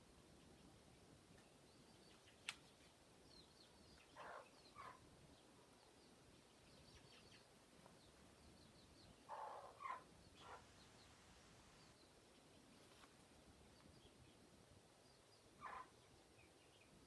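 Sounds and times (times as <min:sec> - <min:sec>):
faint high chirping: 0:00.3 - 0:17.0.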